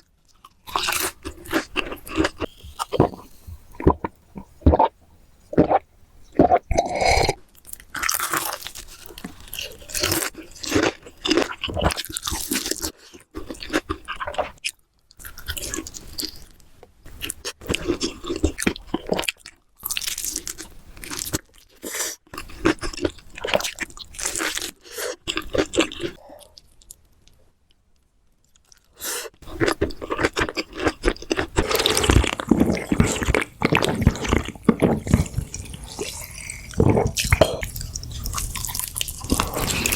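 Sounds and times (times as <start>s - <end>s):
crunching fried chicken: 0.3s - 3.2s, 7.6s - 16.6s, 17.2s - 27.4s, 28.5s - 39.9s.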